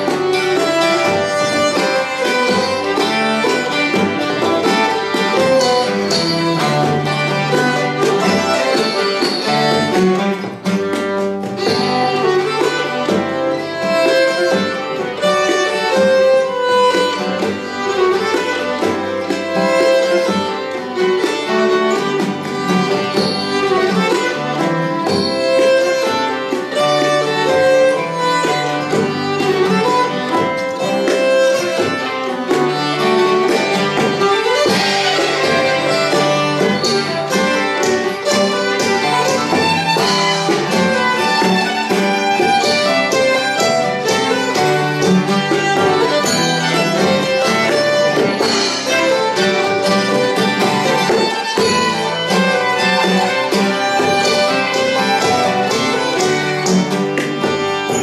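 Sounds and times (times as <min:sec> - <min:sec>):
fiddle: 0:00.0 - 0:58.0
plucked guitar and banjo: 0:00.0 - 0:58.0.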